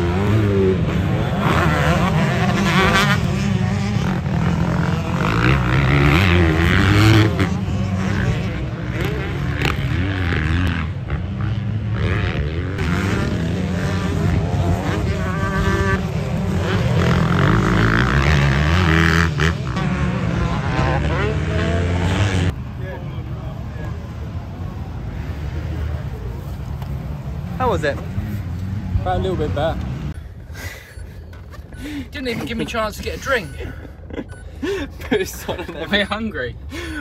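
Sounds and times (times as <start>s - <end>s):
dirt bikes revving: 0.0s - 37.0s.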